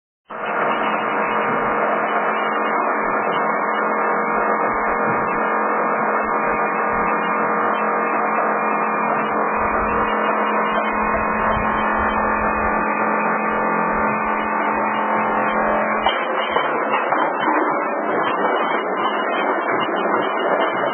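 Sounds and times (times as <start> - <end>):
crushing machine humming: 0.4 - 20.9.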